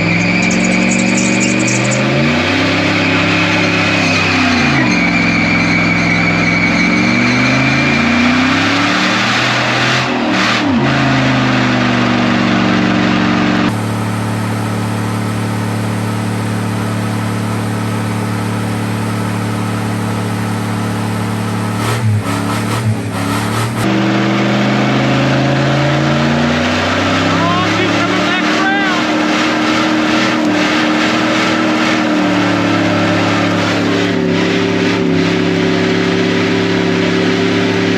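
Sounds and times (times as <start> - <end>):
truck engine revving hard: 0.0 - 37.9.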